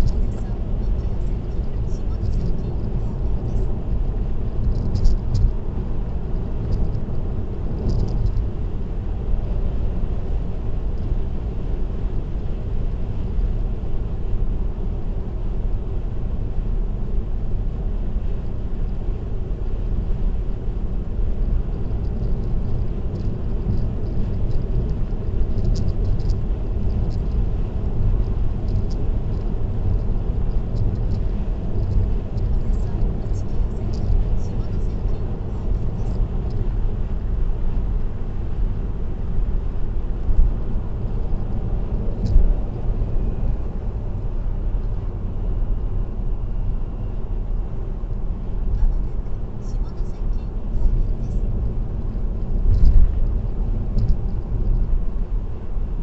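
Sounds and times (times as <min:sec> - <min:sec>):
car tyre and road noise: 0:00.0 - 0:56.0.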